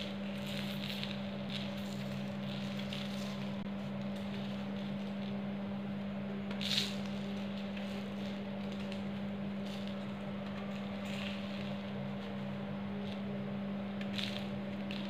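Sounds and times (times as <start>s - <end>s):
hand crunching powdered chalk: 0.0s - 15.0s.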